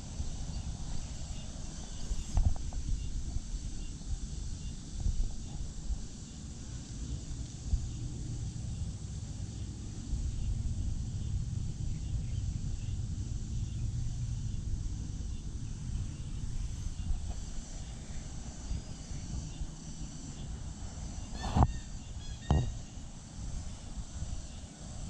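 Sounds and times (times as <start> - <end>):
insects droning: 0.0 - 25.0
low microphone rumble: 0.0 - 25.0.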